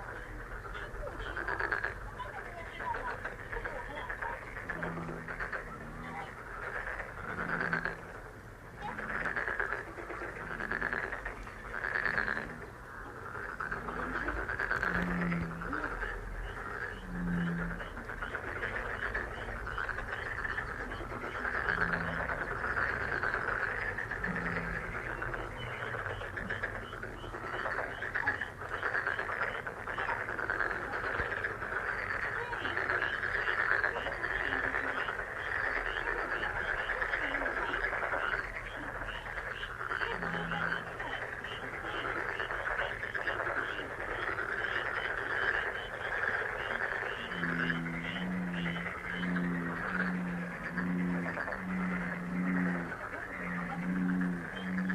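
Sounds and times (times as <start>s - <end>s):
chorus of frogs calling: 0.0s - 54.9s
deep frog croaks: 0.0s - 54.9s.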